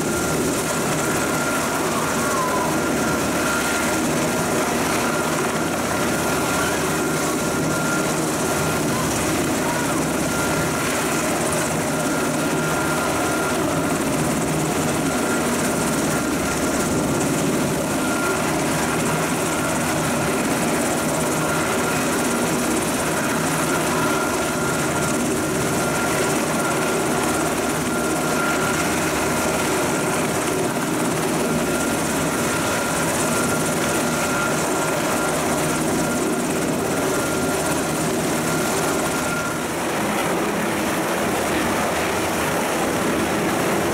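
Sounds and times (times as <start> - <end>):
helicopter engines whining: 0.0 - 43.9
helicopter rotor noise: 0.0 - 43.9.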